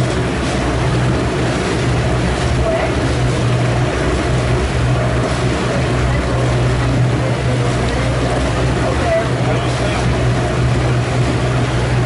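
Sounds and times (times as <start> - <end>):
boat engine droning: 0.0 - 12.0
water rushing along hull: 0.0 - 12.0.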